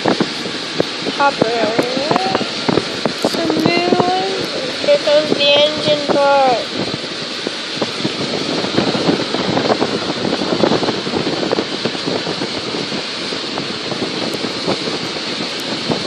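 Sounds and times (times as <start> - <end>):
road and wind noise in car: 0.0 - 16.0.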